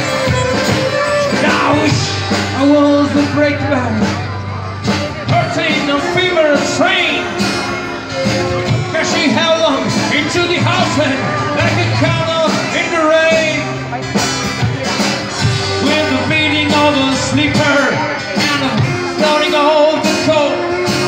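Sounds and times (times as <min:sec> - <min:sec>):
live rock-folk band: 0:00.0 - 0:21.0
violin melody: 0:00.0 - 0:21.0.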